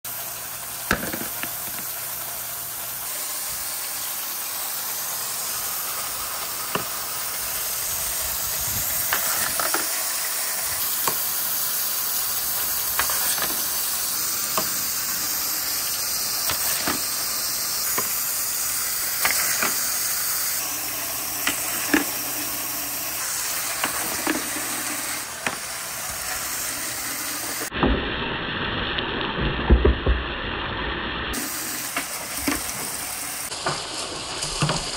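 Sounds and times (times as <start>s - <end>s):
water jet hissing on plastic: 0.0s - 27.8s, 31.3s - 34.9s.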